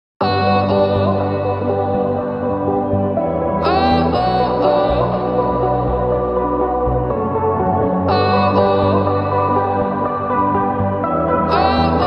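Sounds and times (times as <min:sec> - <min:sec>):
soft ambient music: 0:00.2 - 0:12.0.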